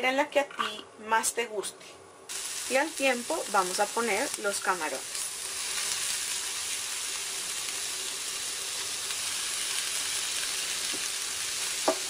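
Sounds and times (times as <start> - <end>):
food sizzling in hot oil: 2.3 - 12.0.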